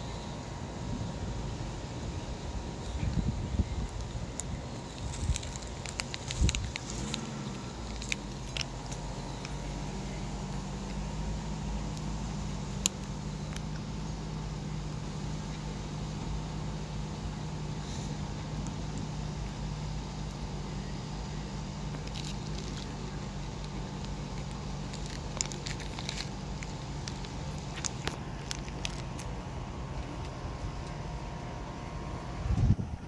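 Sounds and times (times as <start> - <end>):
outdoor hum and low rumble: 0.0 - 33.0.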